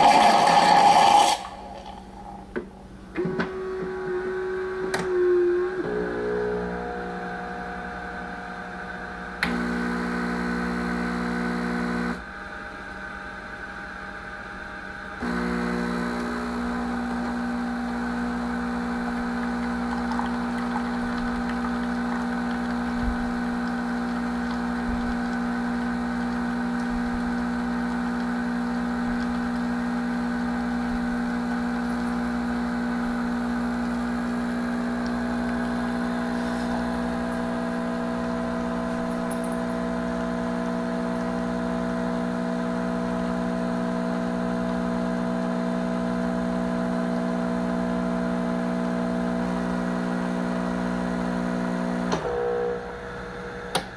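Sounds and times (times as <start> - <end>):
espresso machine pump humming: 3.3 - 12.3, 15.2 - 53.9.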